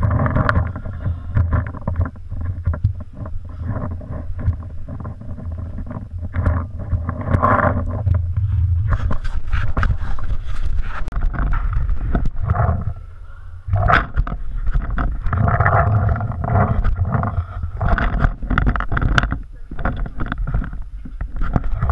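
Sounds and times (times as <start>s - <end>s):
camera handling rumble: 0.0s - 13.0s, 13.7s - 21.9s
wind noise: 0.0s - 21.9s.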